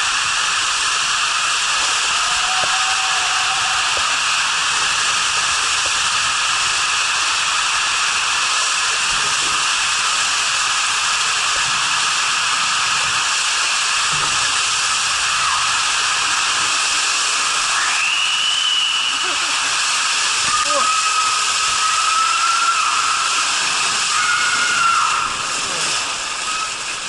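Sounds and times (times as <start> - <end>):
water rushing on water slide: 0.0 - 27.0.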